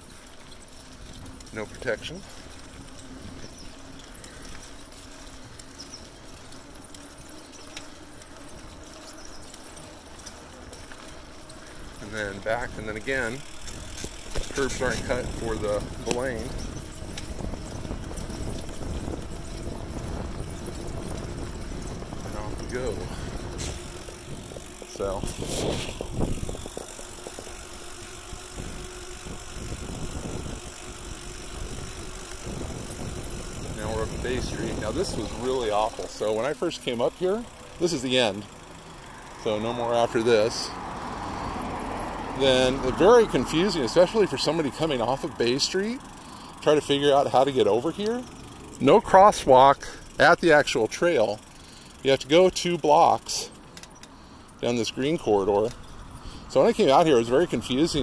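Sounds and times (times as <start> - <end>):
bicycle rolling: 0.0 - 58.0.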